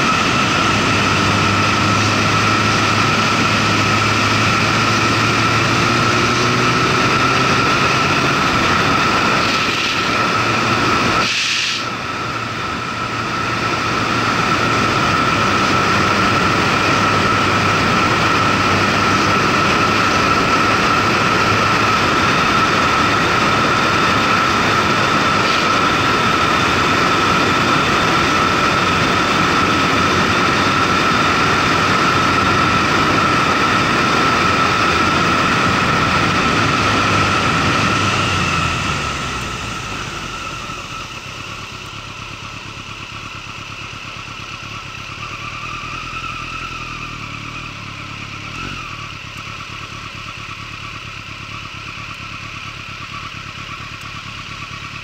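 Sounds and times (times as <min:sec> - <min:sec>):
constant whine: 0:00.0 - 0:55.0
motorcycle engine: 0:00.0 - 0:55.0.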